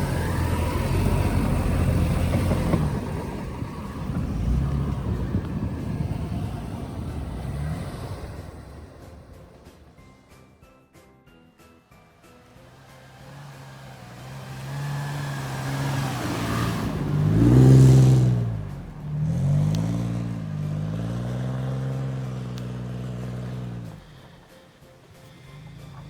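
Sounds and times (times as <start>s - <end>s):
car engine revving hard: 0.0s - 9.6s, 12.6s - 24.6s.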